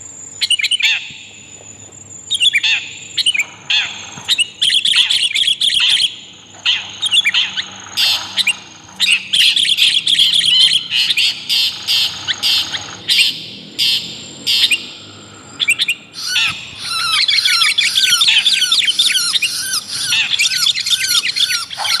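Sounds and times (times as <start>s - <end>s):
chattering bird chirps: 2.3s - 22.0s
harsh scratchy bird calls: 2.3s - 22.0s.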